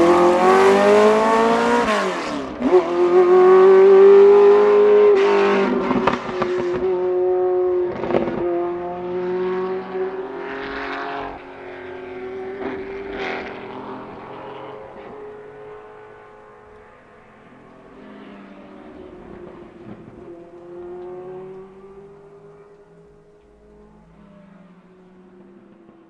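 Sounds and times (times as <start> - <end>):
racing engine at high revs: 0.0 - 26.0.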